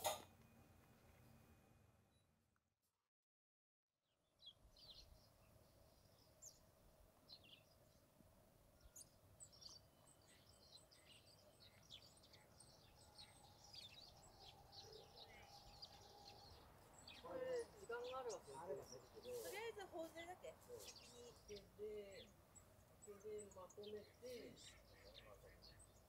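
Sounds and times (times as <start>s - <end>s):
small birds chirping: 4.2s - 26.0s.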